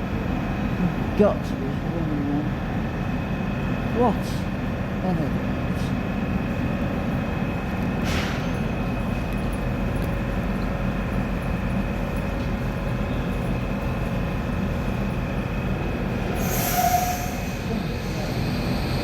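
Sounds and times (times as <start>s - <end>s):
train low rumble and hum: 0.0s - 19.0s.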